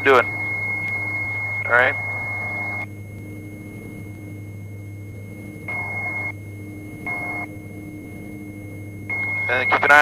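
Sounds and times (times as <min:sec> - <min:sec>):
twin aircraft engines droning: 0:00.0 - 0:10.0.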